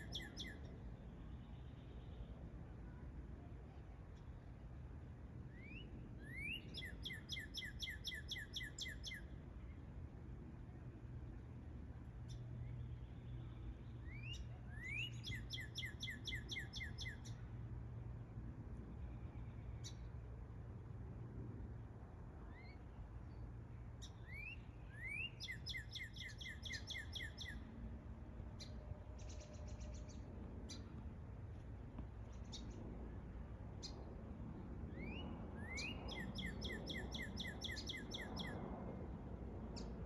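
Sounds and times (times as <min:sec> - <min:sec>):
songbird singing: 0:00.0 - 0:20.6, 0:22.2 - 0:38.8, 0:39.7 - 0:40.0.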